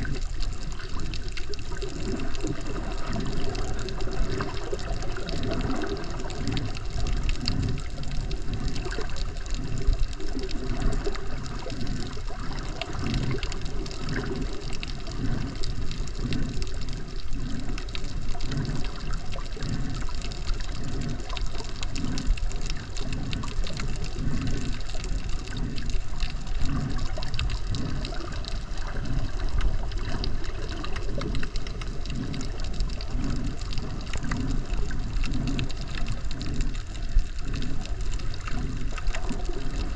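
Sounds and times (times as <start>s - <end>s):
water sloshing underwater: 0.0s - 39.9s.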